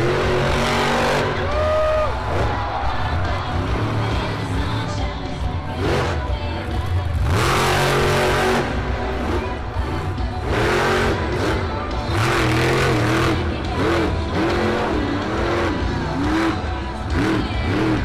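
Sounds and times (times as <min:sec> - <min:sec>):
stadium loudspeaker music: 0:00.0 - 0:18.0
truck engine revving: 0:00.0 - 0:18.0.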